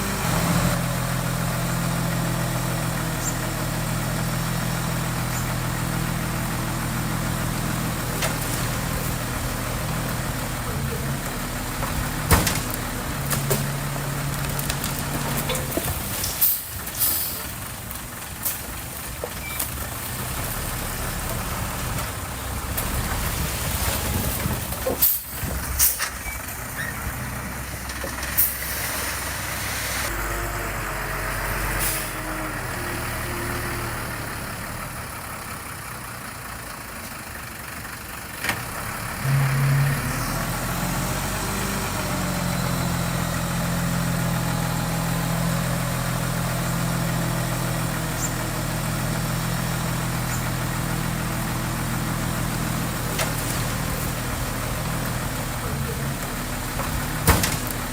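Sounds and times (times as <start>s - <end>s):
diesel machinery engines: 0.0s - 57.9s.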